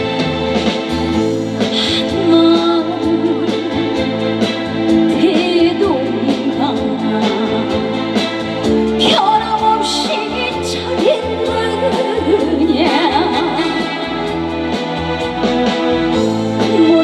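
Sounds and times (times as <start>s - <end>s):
trot song over sound system: 0.0s - 17.0s.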